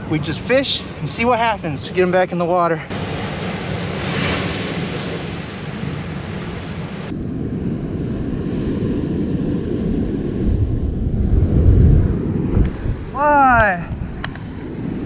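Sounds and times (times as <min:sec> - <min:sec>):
ocean surf breaking on beach: 0:02.9 - 0:15.0
wind buffeting microphone: 0:02.9 - 0:15.0.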